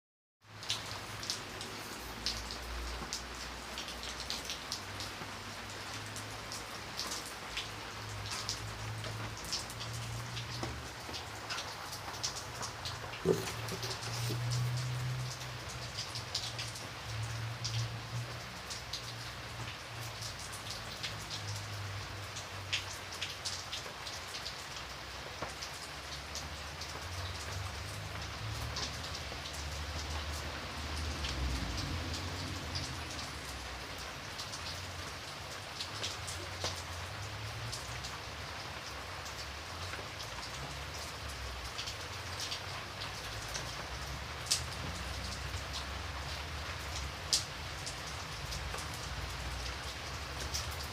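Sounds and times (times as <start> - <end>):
steady rain hiss: 0.4 - 50.9
raindrops clicking: 0.5 - 38.2, 38.8 - 50.9.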